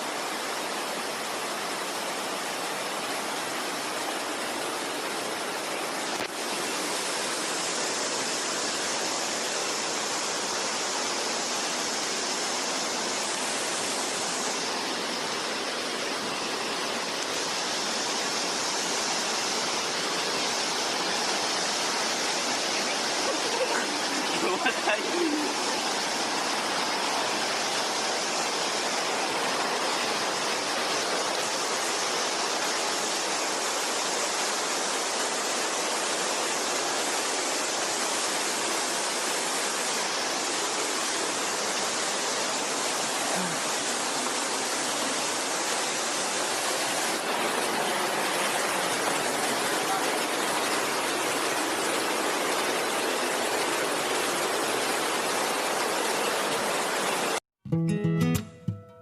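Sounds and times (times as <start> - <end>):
waterfall pouring: 0.0 - 57.4.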